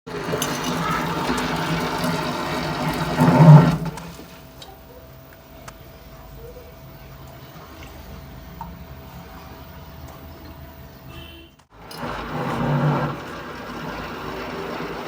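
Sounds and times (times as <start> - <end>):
washing machine rough noise: 0.0 - 15.0.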